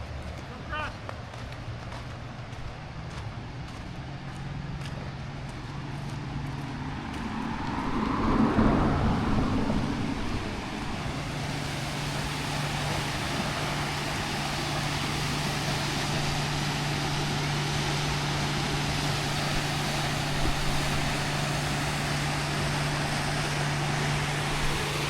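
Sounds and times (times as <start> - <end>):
flowing water rushing: 0.0 - 25.0.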